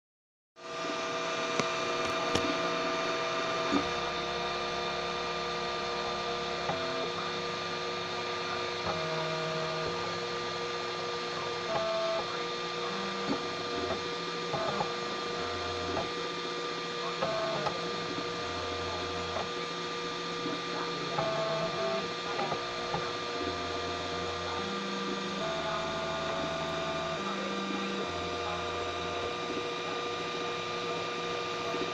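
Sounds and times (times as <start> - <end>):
printer motor tones: 0.6 - 31.9
constant hum: 0.8 - 31.9.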